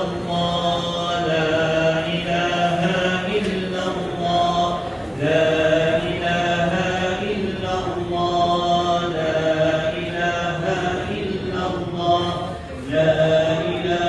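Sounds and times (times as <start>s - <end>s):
devotional chanting: 0.0s - 14.0s.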